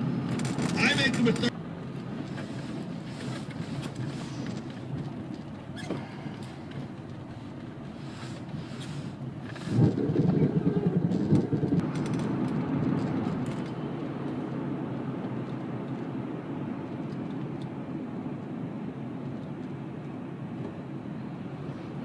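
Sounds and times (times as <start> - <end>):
car interior road rumble: 0.0 - 22.0.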